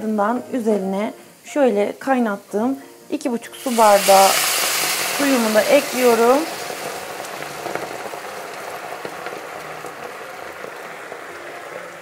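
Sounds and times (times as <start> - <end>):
water sizzling and bubbling in pot: 0.2 - 12.0.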